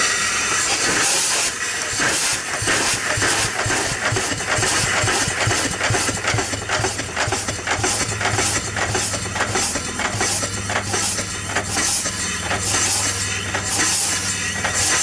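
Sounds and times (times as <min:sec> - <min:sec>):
steam engine chuffing: 0:00.0 - 0:15.0
steam hissing: 0:00.0 - 0:15.0.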